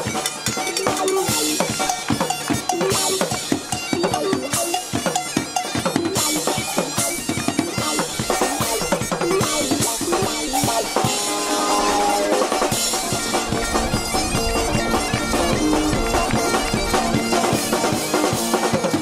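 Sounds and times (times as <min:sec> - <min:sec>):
bagpipes playing a tune: 0:00.0 - 0:19.0
rock beat on drum kit: 0:00.0 - 0:19.0.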